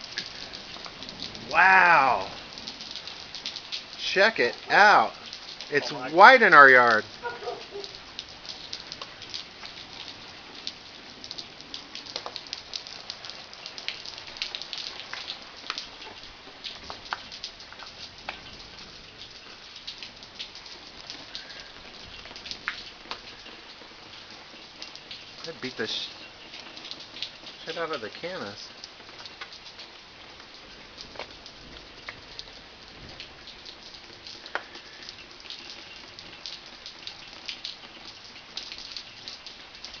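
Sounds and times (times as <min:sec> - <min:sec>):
rain pattering on surfaces: 0:00.0 - 0:40.0.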